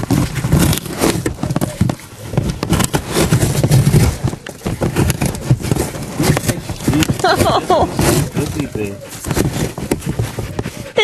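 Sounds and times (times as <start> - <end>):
dog tearing cardboard: 0.0 - 11.0.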